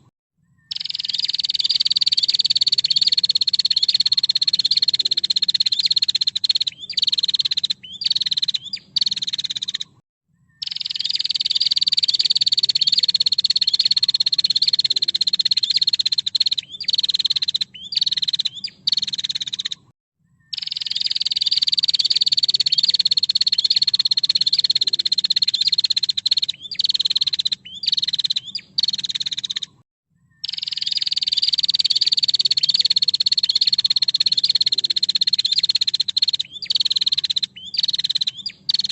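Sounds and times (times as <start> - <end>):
bird buzzy trill: 0.7 - 10.0, 10.6 - 19.9, 20.5 - 29.8, 30.4 - 38.9.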